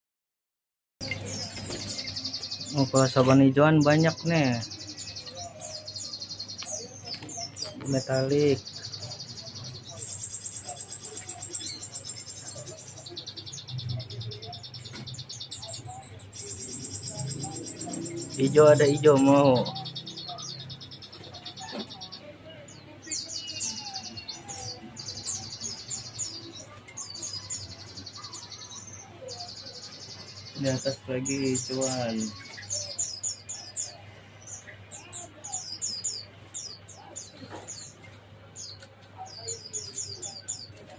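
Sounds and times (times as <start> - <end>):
songbirds trilling: 1.0 - 40.9.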